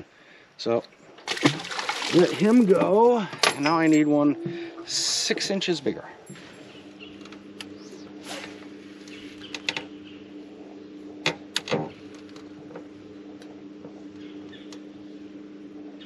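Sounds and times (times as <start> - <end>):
electric motor humming: 2.0 - 16.0.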